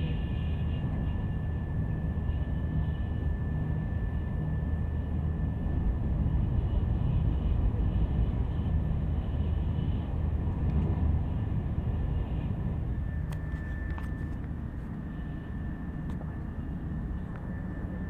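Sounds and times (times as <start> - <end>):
faint steady whine: 0.0 - 18.0
train rumble: 0.0 - 18.0.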